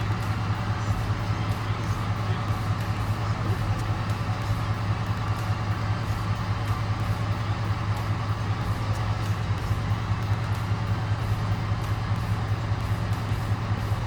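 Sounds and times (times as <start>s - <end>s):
truck engine drone: 0.0s - 14.0s.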